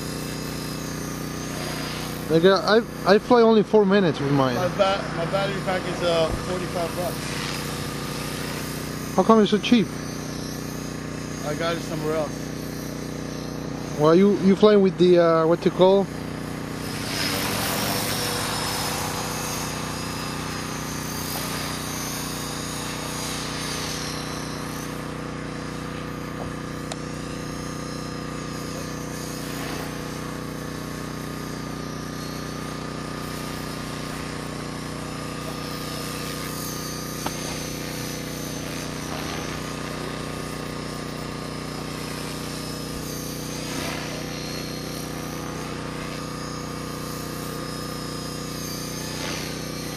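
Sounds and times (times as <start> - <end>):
high motor whine: 0.0 - 49.9
rc helicopter rotor buzz: 0.0 - 49.9.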